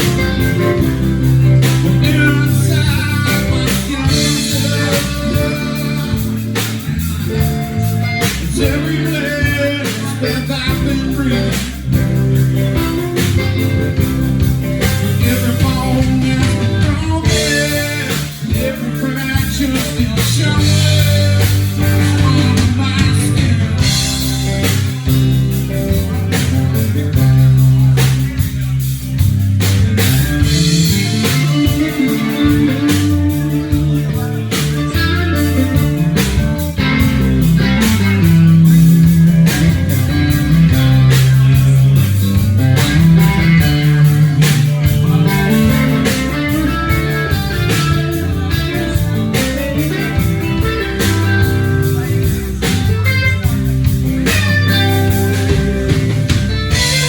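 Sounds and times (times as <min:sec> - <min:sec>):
bass: 0:00.0 - 0:57.0
drums: 0:00.0 - 0:57.0
electric guitar: 0:00.0 - 0:57.0.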